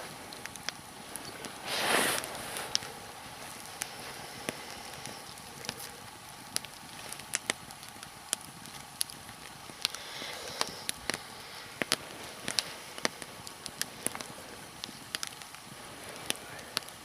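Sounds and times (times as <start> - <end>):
log fire crackling: 0.0 - 17.0
soft hiss of burning: 0.0 - 17.0.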